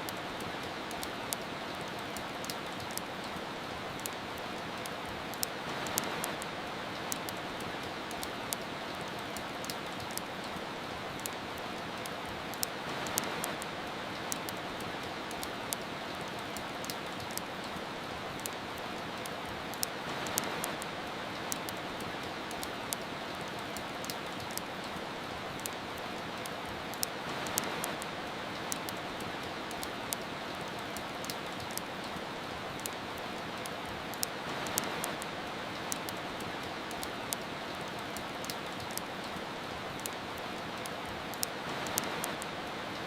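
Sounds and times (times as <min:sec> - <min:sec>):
rain hiss: 0:00.0 - 0:43.0
wood fire crackling: 0:00.0 - 0:43.0.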